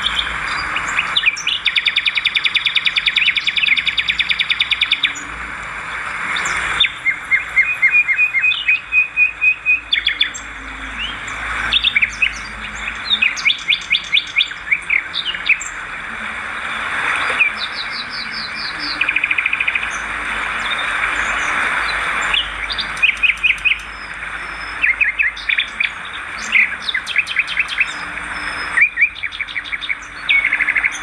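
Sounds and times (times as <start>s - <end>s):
swiftlets twittering: 0.0s - 31.0s.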